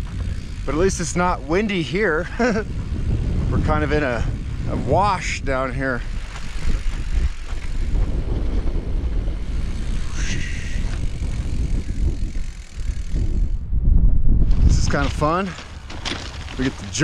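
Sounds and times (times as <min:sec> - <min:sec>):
bicycle tyres rolling over sand: 0:00.0 - 0:17.0.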